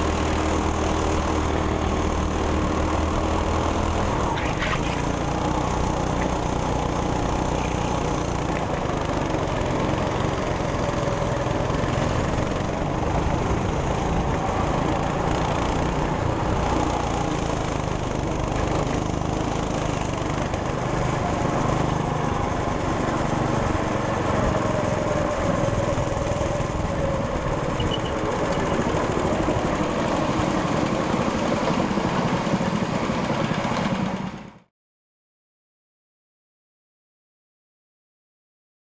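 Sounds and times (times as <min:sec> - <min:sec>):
go-kart engine running: 0:00.0 - 0:34.6.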